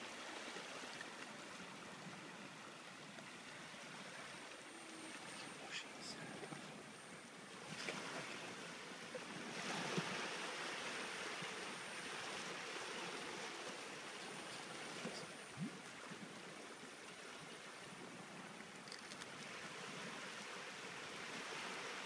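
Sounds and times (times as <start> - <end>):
water rushing at shore: 0.0 - 22.0.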